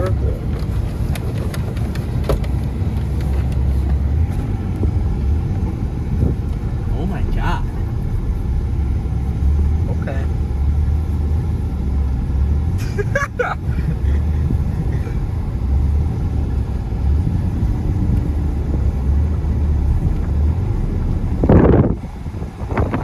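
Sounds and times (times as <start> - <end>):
pickup engine deep rumble: 0.0 - 23.0.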